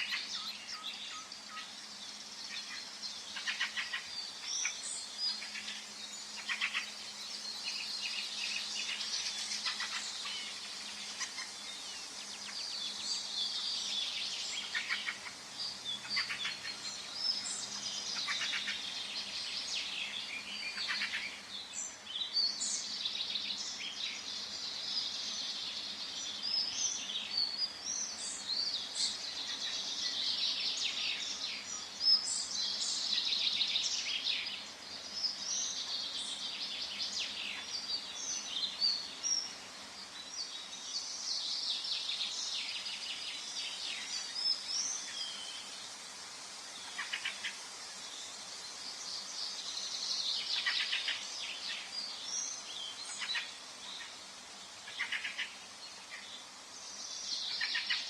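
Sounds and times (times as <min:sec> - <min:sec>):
faint steady background hiss: 0:00.0 - 0:58.0
songbirds singing and calling: 0:00.0 - 0:58.0.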